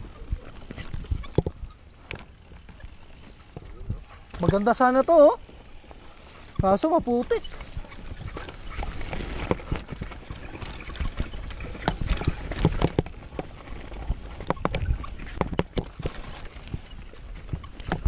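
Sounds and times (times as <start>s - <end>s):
wind rumble on microphone: 0.0s - 5.8s, 6.4s - 18.0s
bike clattering over bumps: 0.4s - 18.0s.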